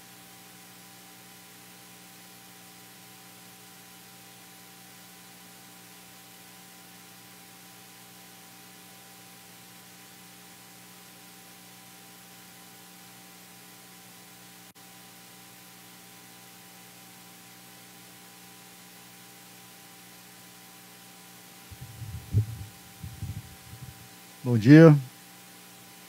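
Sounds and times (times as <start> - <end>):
electrical mains hum with hiss: 0.0 - 26.0.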